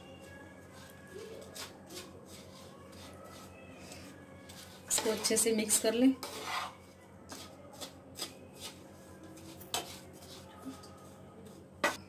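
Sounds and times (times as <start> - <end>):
spatula scraping dry mixture: 0.2 - 12.0.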